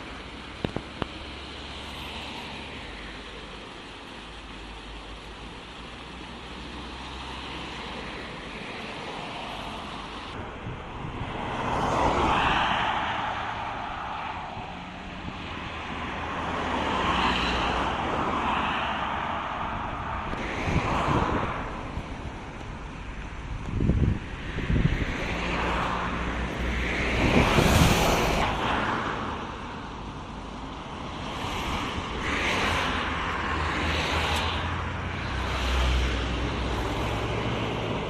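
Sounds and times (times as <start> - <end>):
vehicles passing on highway: 0.0 - 38.0.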